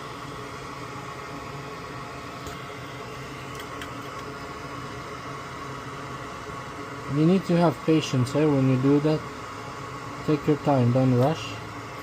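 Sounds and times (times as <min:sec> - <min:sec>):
small electric fan whirring: 0:00.0 - 0:12.0.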